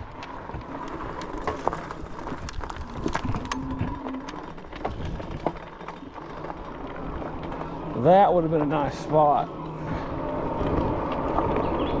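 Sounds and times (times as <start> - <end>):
truck rolling slowly: 0.0 - 12.0.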